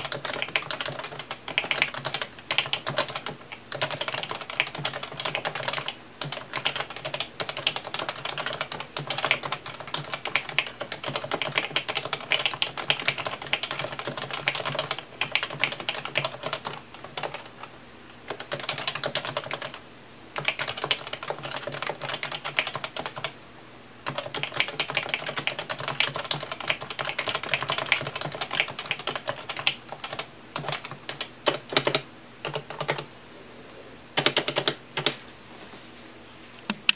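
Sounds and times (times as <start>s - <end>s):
rapid keyboard typing: 0.0s - 17.7s, 18.3s - 19.8s, 20.4s - 23.3s, 24.0s - 33.1s, 34.2s - 35.2s.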